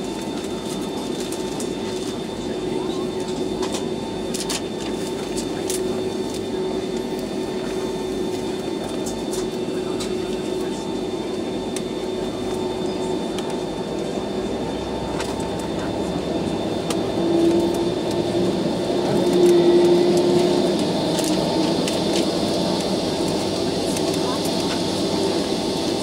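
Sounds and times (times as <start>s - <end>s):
jet engines humming and whining: 0.0s - 26.0s.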